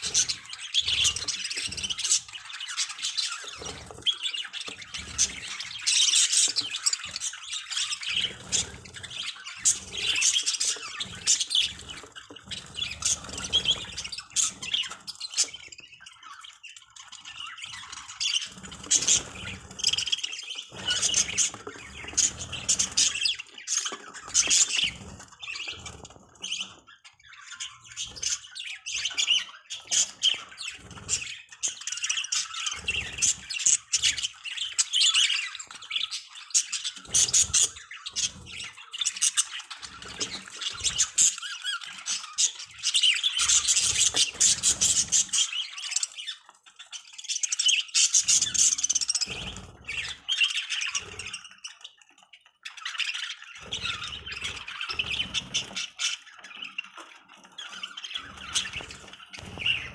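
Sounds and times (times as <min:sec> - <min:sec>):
budgerigars chattering and squawking: 0:00.0 - 0:59.9.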